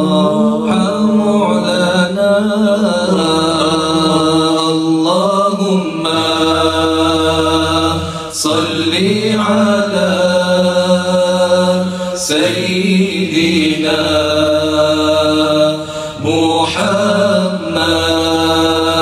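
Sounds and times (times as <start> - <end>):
men chanting devotional song: 0.0 - 19.0.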